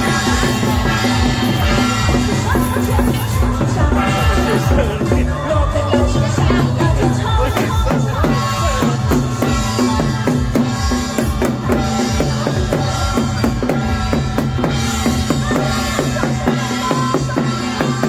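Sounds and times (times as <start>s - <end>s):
drums beating fast rhythm: 0.0s - 18.0s.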